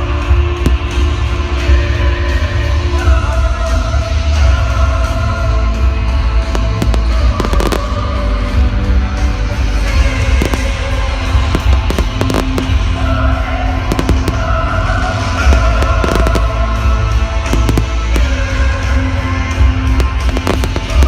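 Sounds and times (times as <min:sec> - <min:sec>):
loud music with heavy bass: 0:00.0 - 0:21.0
fireworks bangs and crackles: 0:00.3 - 0:01.8, 0:05.2 - 0:21.0.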